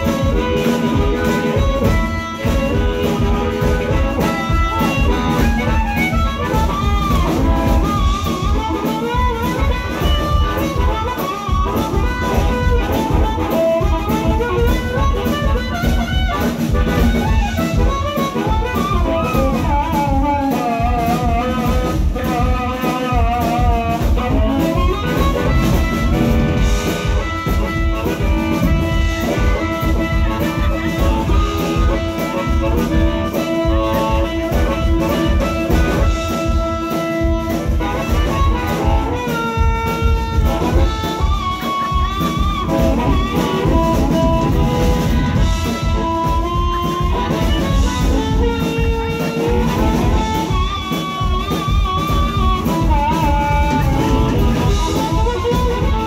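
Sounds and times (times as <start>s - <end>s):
amplified harmonica: 0.0s - 56.0s
drum kit steady beat: 0.0s - 56.0s
electric guitar: 0.0s - 56.0s
lap steel guitar: 0.0s - 56.0s.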